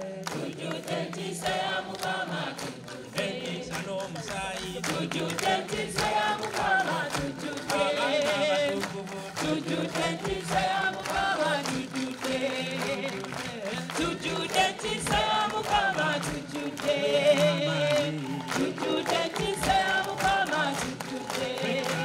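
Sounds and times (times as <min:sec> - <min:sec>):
choir and people singing: 0:00.0 - 0:22.0
hands clapping in rhythm: 0:00.0 - 0:22.0.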